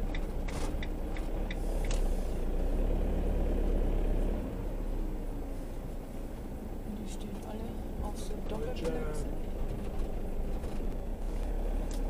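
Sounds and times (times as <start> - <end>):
vehicle engine and tyres rolling: 0.0 - 12.0.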